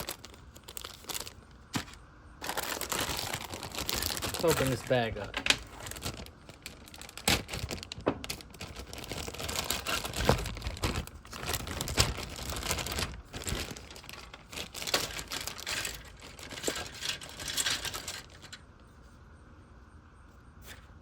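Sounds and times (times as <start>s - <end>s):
plastic bag crinkling: 0.0s - 18.7s.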